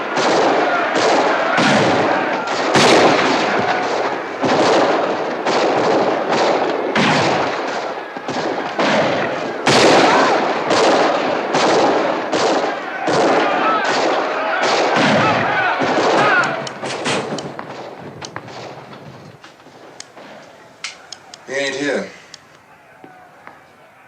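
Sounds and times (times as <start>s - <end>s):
heavy gunfire: 0.0s - 20.4s
continuous battle din: 0.0s - 20.6s.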